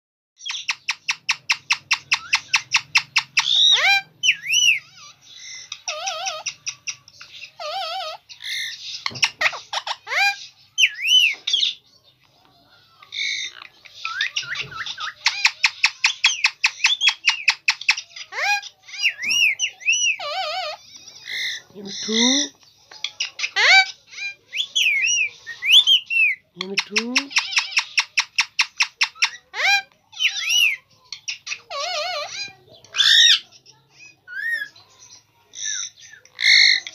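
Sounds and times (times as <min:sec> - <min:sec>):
parakeet calling: 0:00.4 - 0:11.8, 0:13.1 - 0:36.9.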